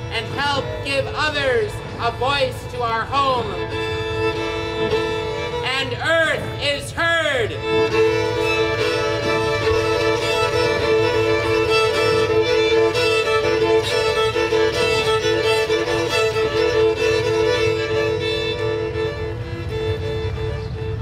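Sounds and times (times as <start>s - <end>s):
violins playing slow music: 0.0s - 21.0s.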